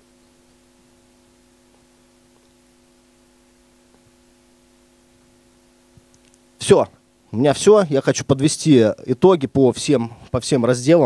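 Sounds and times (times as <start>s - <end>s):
faint sound system hum: 0.0s - 11.0s
soft hiss: 0.0s - 11.0s.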